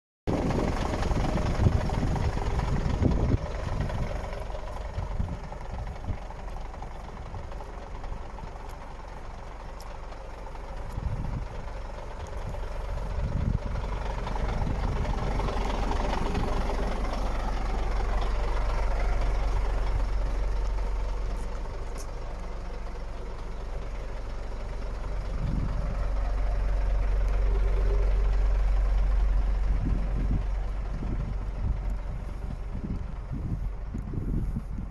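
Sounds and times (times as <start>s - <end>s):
wind buffeting microphone: 0.3s - 9.3s, 10.7s - 21.2s, 25.1s - 34.9s
diesel truck engine idling: 0.3s - 34.9s.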